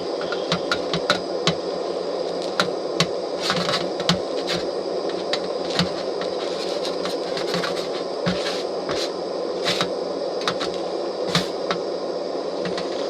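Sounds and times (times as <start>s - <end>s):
camp stove burner hissing: 0.0s - 13.0s.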